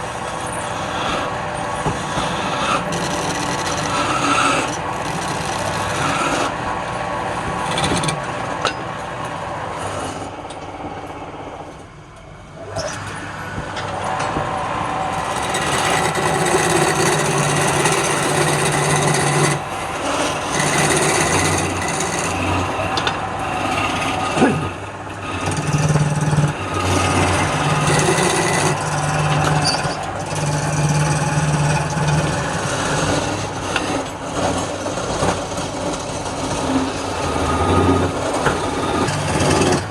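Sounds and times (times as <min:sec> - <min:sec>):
turning tool scraping wood: 0:00.0 - 0:06.6, 0:07.3 - 0:10.3, 0:14.0 - 0:39.9
wood lathe motor hum: 0:00.0 - 0:10.4, 0:13.0 - 0:39.9.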